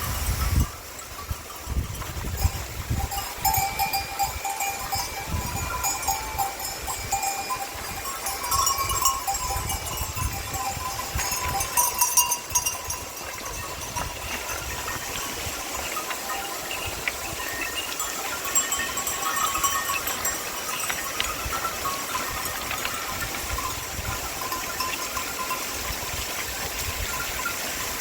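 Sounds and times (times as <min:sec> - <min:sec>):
livestock bells clinking: 0:00.0 - 0:28.0.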